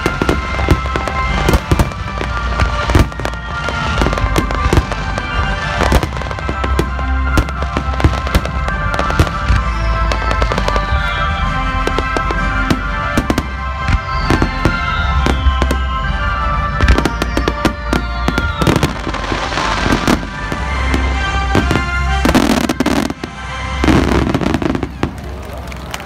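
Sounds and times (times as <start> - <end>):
fireworks bursting: 0.0 - 26.0
music: 0.0 - 26.0.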